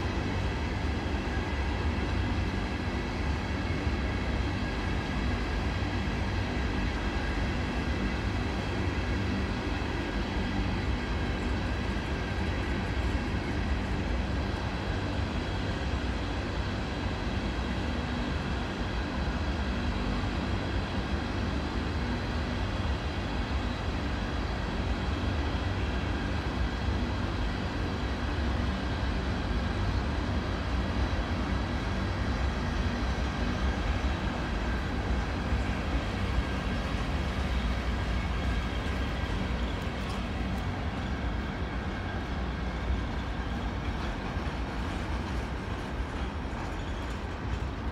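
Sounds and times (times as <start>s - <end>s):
freight car wheels rumbling on rail: 0.0s - 47.9s.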